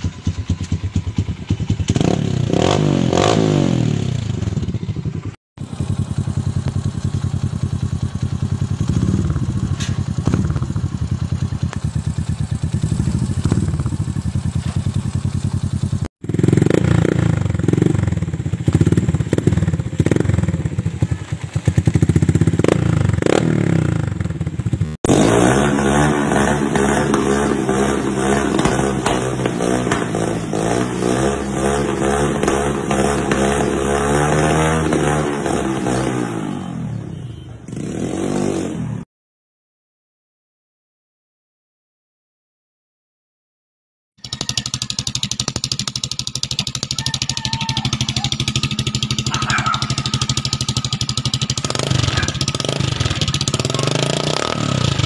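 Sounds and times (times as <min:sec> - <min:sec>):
motorcycle engines revving: 0:00.0 - 0:39.0, 0:44.2 - 0:55.0.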